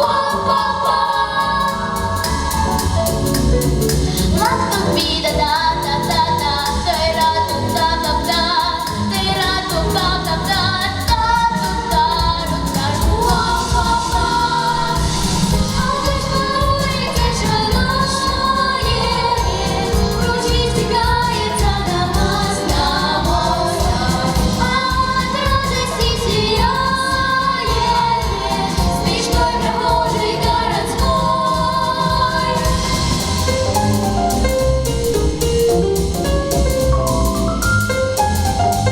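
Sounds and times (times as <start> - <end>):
group singing in unison: 0.0 - 33.7
instrumental accompaniment with beat: 0.0 - 38.9.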